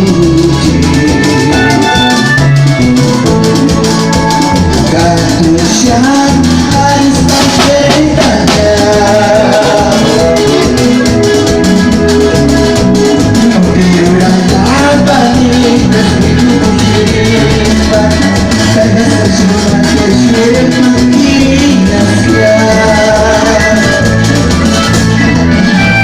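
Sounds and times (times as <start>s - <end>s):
band playing latin music: 0.0s - 26.0s
person singing: 0.0s - 26.0s
steady drum beat: 0.0s - 26.0s.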